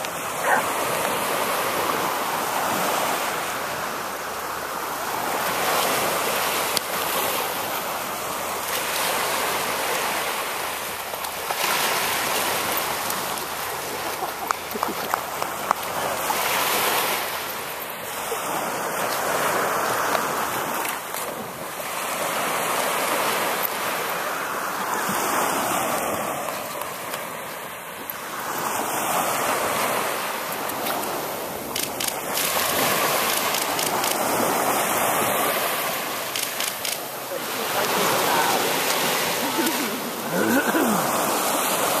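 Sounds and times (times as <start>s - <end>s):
surf breaking on sandy shore: 0.0s - 42.0s.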